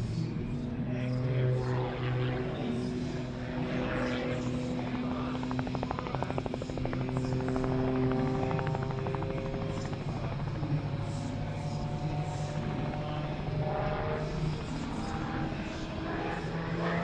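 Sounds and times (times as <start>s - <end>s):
propeller aircraft engine: 0.0s - 17.0s.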